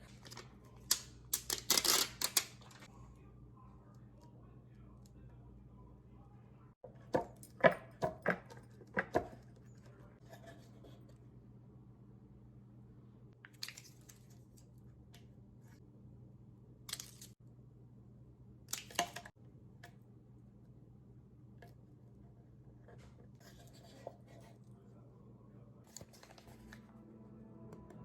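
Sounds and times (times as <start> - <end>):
low steady hum: 2.4 - 28.0.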